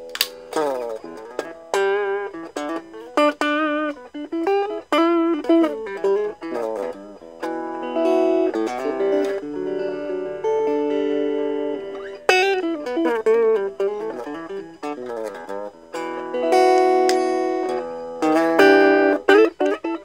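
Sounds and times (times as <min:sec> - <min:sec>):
electric guitar notes and chords: 0:00.0 - 0:20.0.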